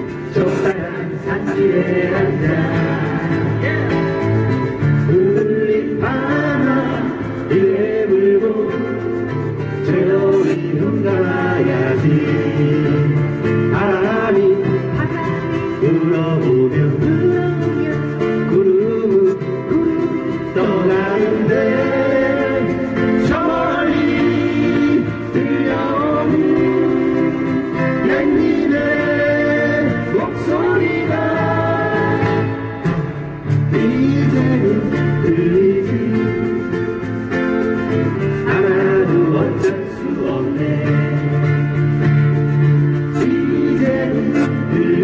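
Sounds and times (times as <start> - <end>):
person singing: 0.0 - 45.0
strummed acoustic guitars: 0.0 - 45.0.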